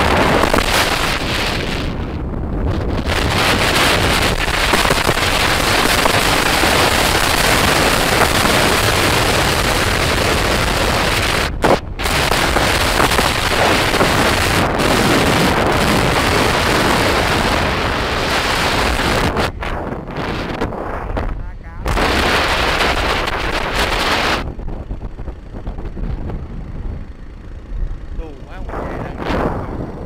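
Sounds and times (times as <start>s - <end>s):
road noise: 0.0s - 30.0s
wind buffeting microphone: 0.0s - 30.0s.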